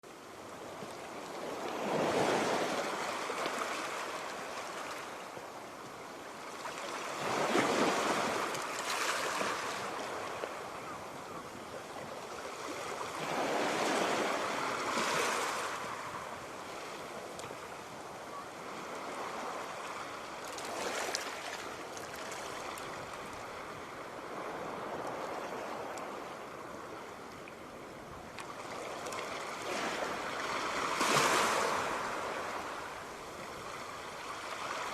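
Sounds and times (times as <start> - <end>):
sea waves washing ashore: 0.1 - 34.9.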